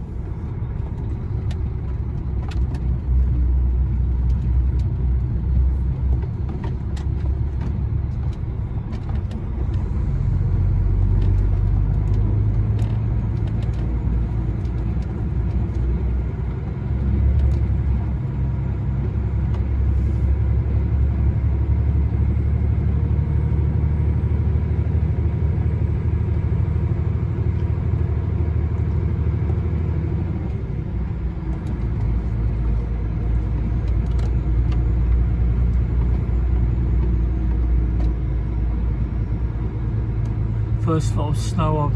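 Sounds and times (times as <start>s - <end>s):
lorry engine and road rumble: 0.0s - 41.9s.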